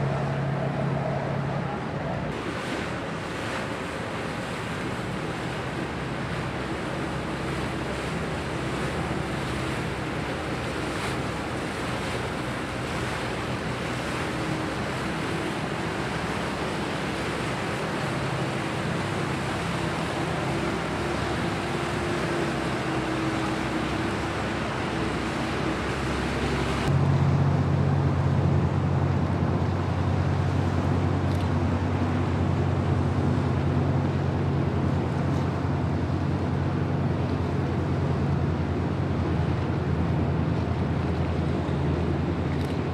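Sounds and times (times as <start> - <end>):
deep engine drone: 0.0 - 42.9
motorboat engine humming: 0.0 - 42.9
water noise: 0.0 - 42.9
wind: 0.0 - 42.9.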